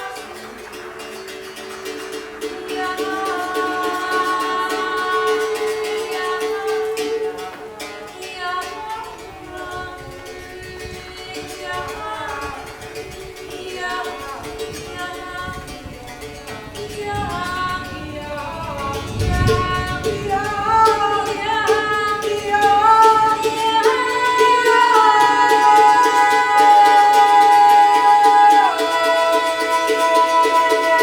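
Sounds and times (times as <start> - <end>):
women singing long held notes: 0.0 - 31.0.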